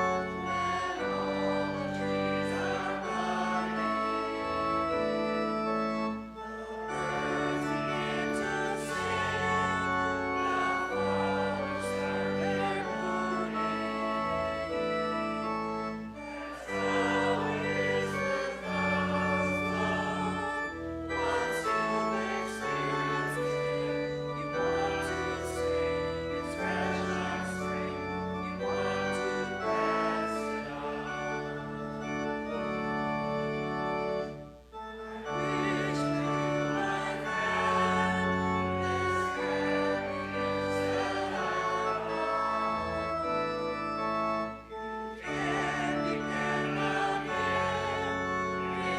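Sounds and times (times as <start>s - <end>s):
congregation singing a hymn: 0.0s - 48.9s
organ chords: 0.0s - 48.9s.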